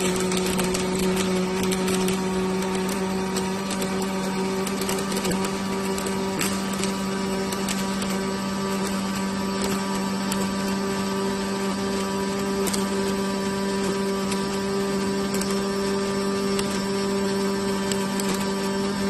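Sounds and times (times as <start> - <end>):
welding machine hum: 0.0 - 19.0.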